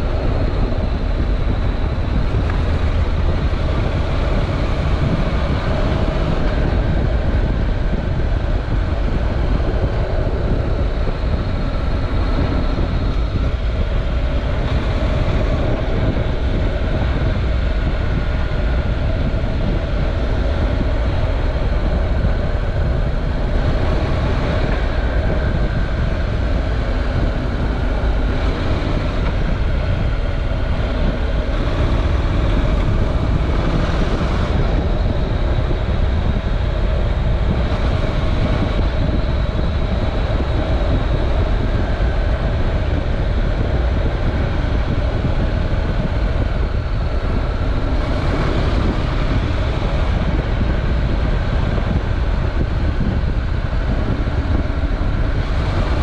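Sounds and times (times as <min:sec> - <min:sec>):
motorcycle engine running: 0:00.0 - 0:56.0
wind rumble on microphone: 0:00.0 - 0:56.0.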